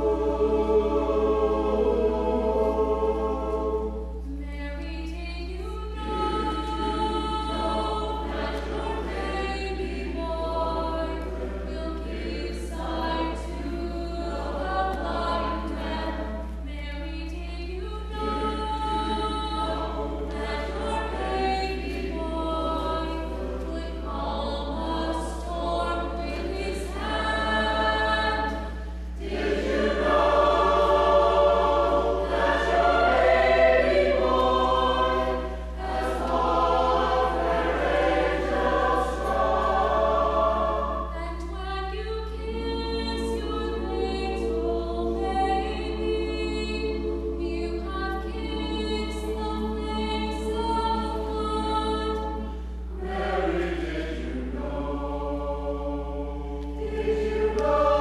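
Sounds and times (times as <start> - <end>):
mixed choir singing a cappella: 0.0 - 58.0
steady low hum: 0.0 - 58.0.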